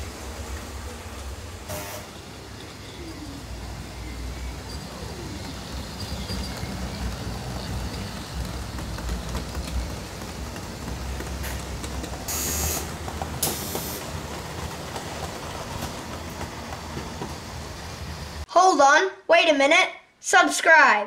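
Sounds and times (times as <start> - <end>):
model train rumbling: 0.0 - 18.5.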